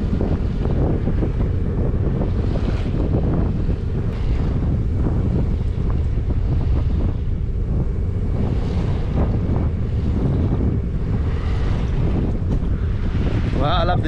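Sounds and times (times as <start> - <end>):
water washing past hull: 0.0 - 14.0
wind buffeting microphone: 0.0 - 14.0.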